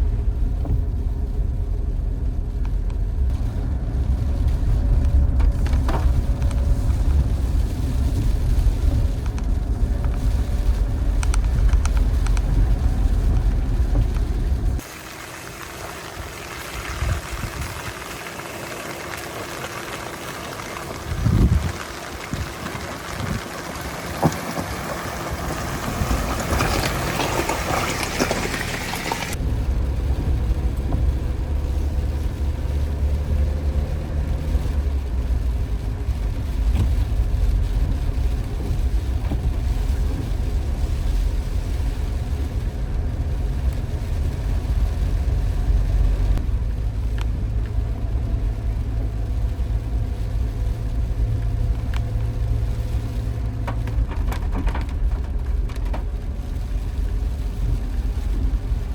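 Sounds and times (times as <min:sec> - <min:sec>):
engine and tyres rumbling on road: 0:00.0 - 0:58.9
rain and wind hiss: 0:00.0 - 0:58.9.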